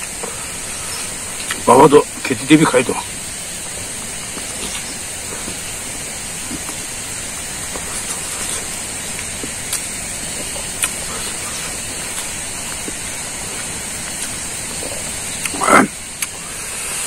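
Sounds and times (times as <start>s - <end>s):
person chewing food: 0.0s - 1.6s, 3.6s - 16.4s
outdoor background hiss: 0.0s - 17.0s.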